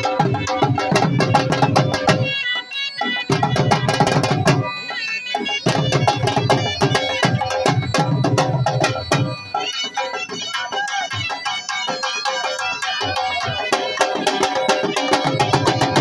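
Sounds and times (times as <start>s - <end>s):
fast hand-drum beat: 0.0s - 2.4s, 3.0s - 16.0s
folk melody instrument: 0.0s - 16.0s.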